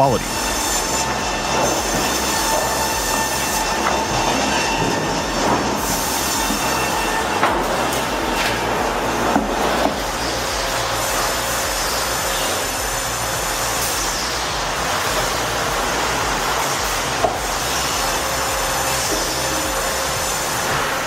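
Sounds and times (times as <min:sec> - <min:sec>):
heavy machinery rumble and hiss: 0:00.0 - 0:21.0.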